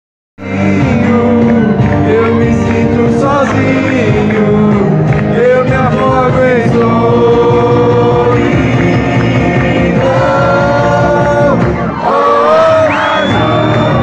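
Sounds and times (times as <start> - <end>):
live rock band playing: 0.4 - 14.0
singer holding long notes: 0.4 - 14.0.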